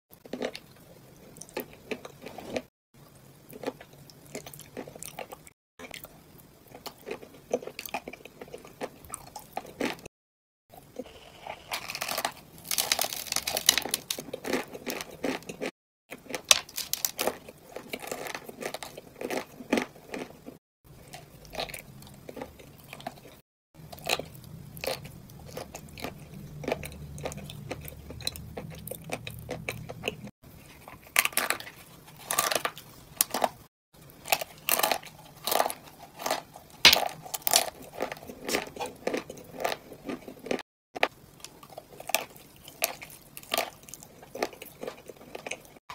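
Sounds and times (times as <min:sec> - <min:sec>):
crunching and chewing clay: 0:00.2 - 0:02.7, 0:03.5 - 0:10.1, 0:11.0 - 0:45.9.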